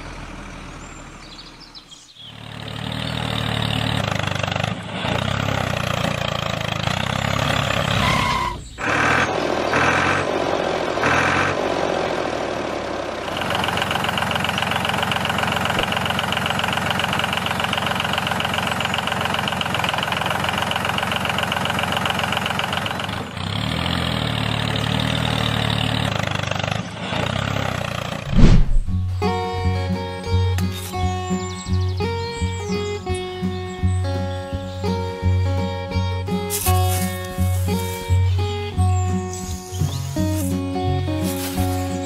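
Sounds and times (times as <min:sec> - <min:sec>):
tractor engine idling: 0:00.0 - 0:42.0
tractor engine running: 0:00.0 - 0:42.0.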